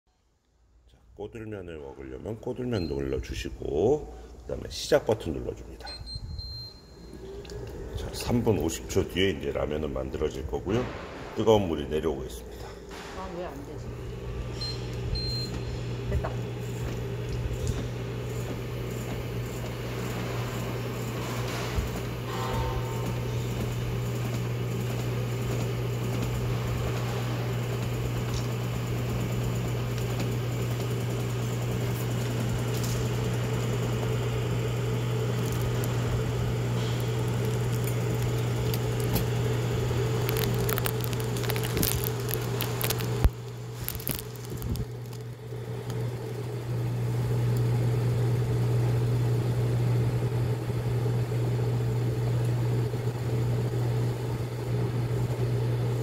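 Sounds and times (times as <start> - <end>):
low electrical hum: 0.3 - 56.0.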